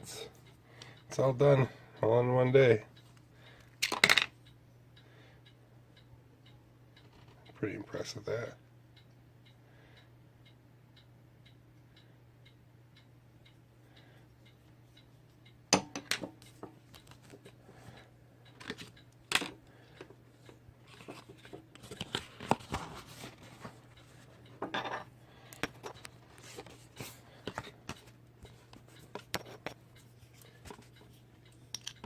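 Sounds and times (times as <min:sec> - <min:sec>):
faint steady ticking: 0:00.0 - 0:03.8, 0:04.4 - 0:32.0.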